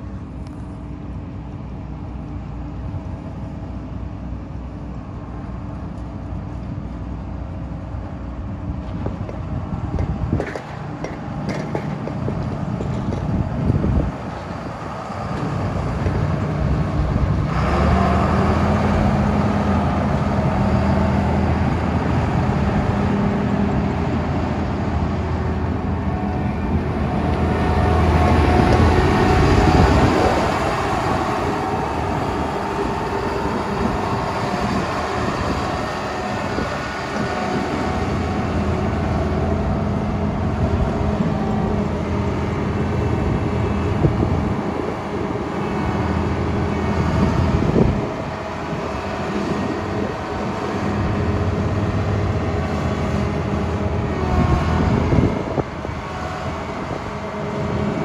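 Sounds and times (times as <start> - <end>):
combine diesel engine running: 0.0 - 58.0.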